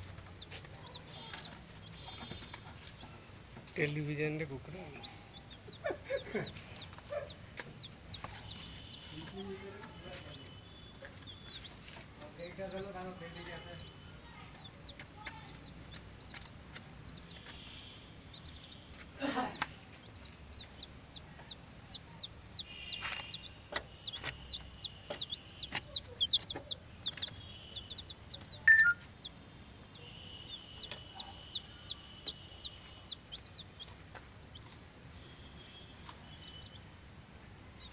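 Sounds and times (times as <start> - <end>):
baby chicks peeping: 0.0 - 37.9.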